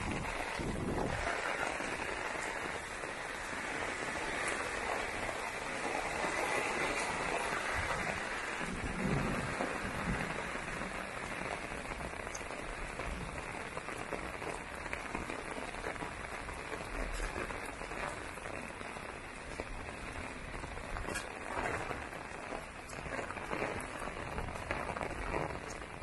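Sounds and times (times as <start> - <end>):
heavy rain falling: 0.0 - 26.0
sharp raindrop ticks: 0.0 - 26.0.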